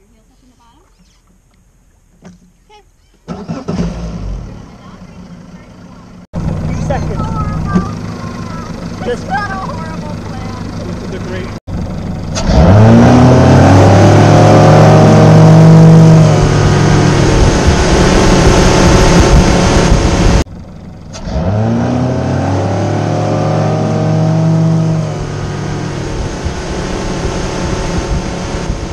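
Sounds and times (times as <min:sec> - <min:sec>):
outboard motor accelerating: 0:03.3 - 0:28.9.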